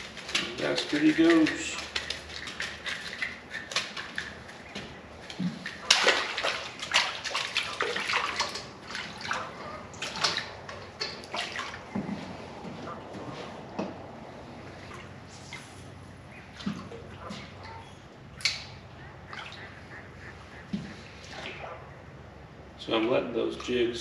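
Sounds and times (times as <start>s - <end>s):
fish splashing at water surface: 0.0s - 13.6s, 14.3s - 21.9s.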